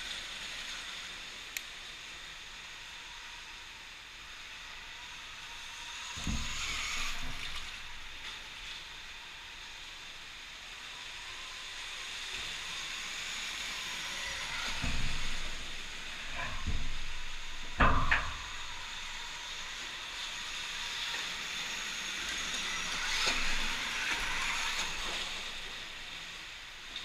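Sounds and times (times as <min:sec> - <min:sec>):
electric motor whine: 0:00.0 - 0:27.0
steady hiss: 0:00.0 - 0:27.0.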